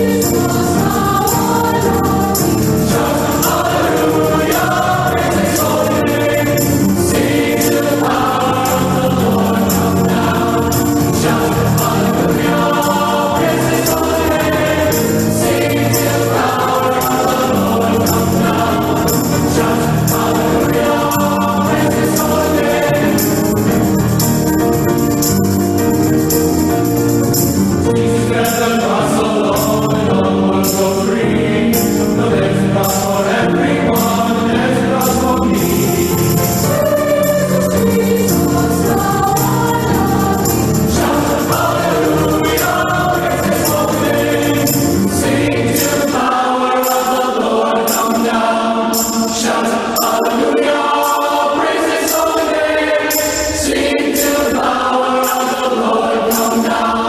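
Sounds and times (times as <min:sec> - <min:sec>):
high percussion beat: 0:00.0 - 0:32.2, 0:32.8 - 0:56.8
choir singing over instruments: 0:00.0 - 0:57.0.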